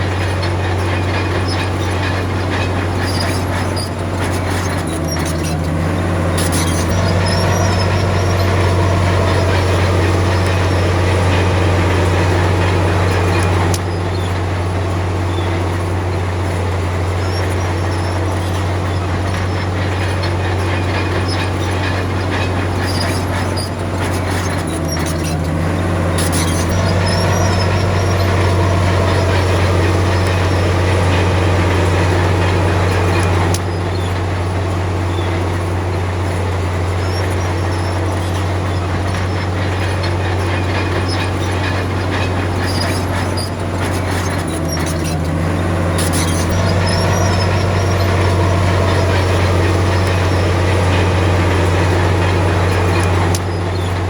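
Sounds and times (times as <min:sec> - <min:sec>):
bulldozer diesel engine running: 0:00.0 - 0:54.0
metallic clatter of tracks: 0:00.0 - 0:54.0.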